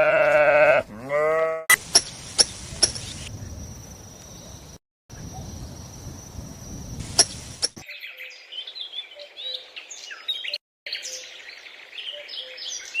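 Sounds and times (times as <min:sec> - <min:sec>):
birds chirping: 0:01.7 - 0:06.1, 0:06.7 - 0:13.0.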